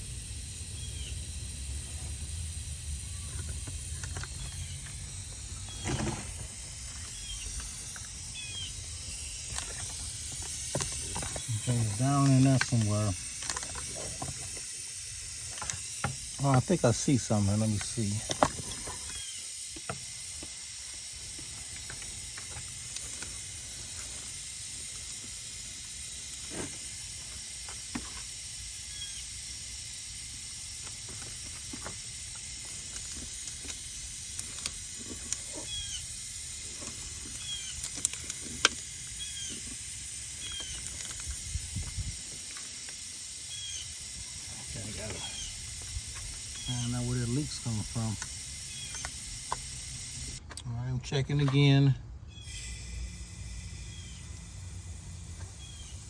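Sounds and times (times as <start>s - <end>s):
pressurized air hissing: 0.0s - 50.5s, 52.4s - 56.0s.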